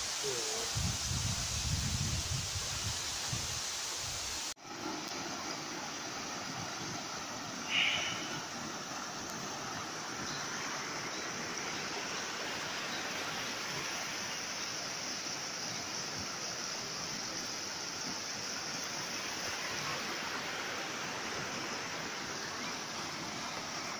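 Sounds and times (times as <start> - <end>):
stream rushing over rocks: 0.0 - 23.9.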